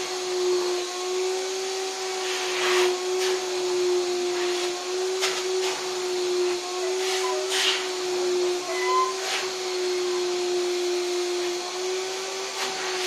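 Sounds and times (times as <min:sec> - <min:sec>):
vacuum cleaner motor whine: 0:00.0 - 0:13.0
vacuum nozzle rushes of air: 0:00.0 - 0:13.0.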